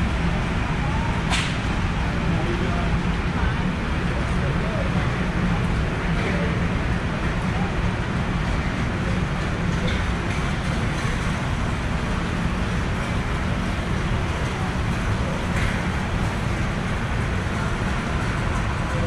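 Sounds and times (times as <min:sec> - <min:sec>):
low rumble with hiss: 0:00.0 - 0:19.0.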